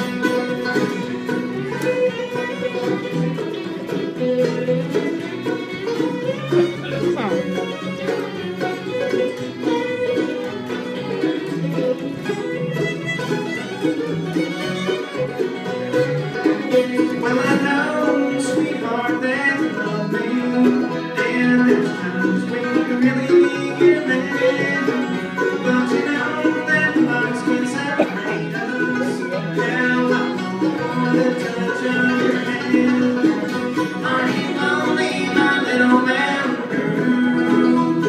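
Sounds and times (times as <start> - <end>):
acoustic guitar: 0.0 - 38.0
banjo: 0.0 - 38.0
fiddle: 0.0 - 38.0
mandolin: 0.0 - 38.0
upright bass: 0.0 - 38.0.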